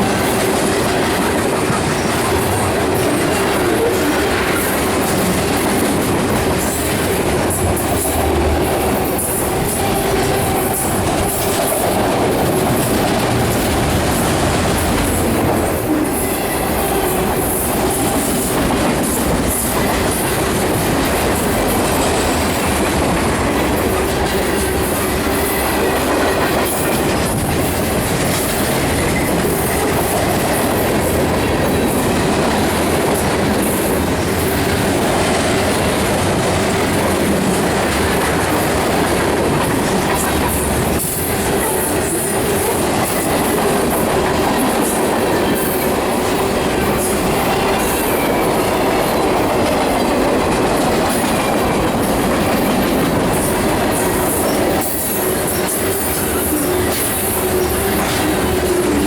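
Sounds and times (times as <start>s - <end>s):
freight train rolling past: 0.0s - 59.0s
train wheels clicking over rail joints: 0.0s - 59.0s.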